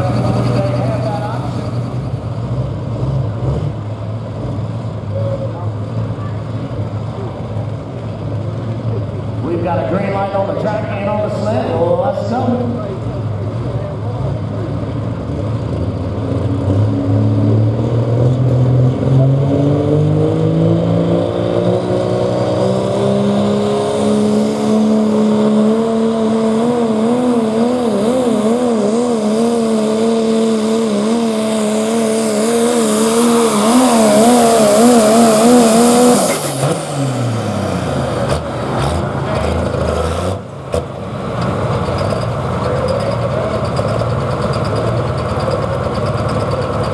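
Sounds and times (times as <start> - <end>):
diesel engine at full throttle: 0.0 - 46.9.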